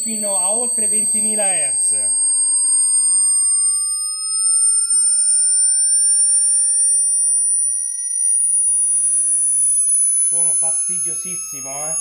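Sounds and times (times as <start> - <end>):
faint high-pitched gliding tones: 0.0 - 12.0
rising test tone sweep: 0.0 - 12.0.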